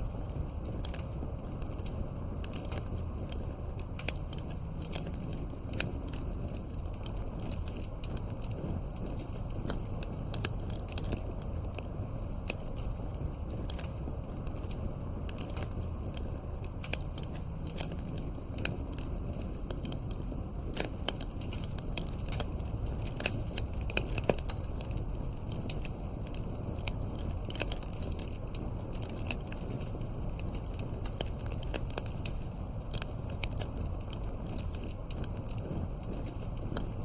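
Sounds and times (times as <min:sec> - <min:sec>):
burning wood crackles and pops: 0:00.0 - 0:37.0
low rumble of flames: 0:00.0 - 0:37.0.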